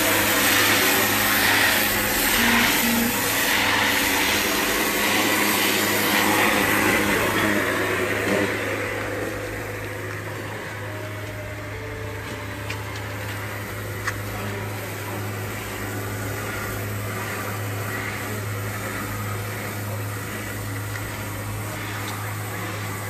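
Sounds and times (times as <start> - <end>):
even hiss: 0.0 - 23.0
low machine hum: 0.0 - 23.0.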